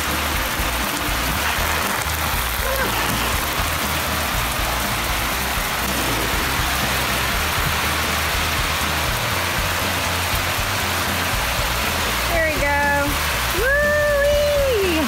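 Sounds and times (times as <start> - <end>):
water spraying from sprinklers: 0.0 - 15.0.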